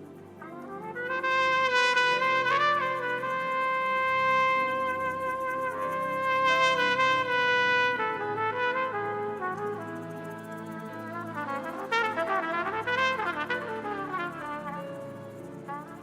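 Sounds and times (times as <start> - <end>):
faint backing music: 0.0 - 16.0
solo trumpet: 0.0 - 16.0.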